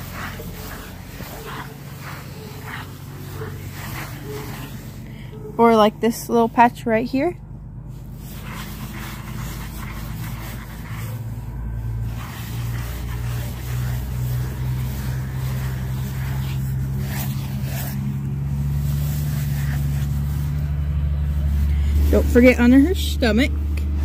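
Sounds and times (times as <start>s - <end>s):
curry comb scrubbing horse coat: 0.0s - 7.3s, 7.9s - 24.0s
low engine hum: 0.0s - 24.0s.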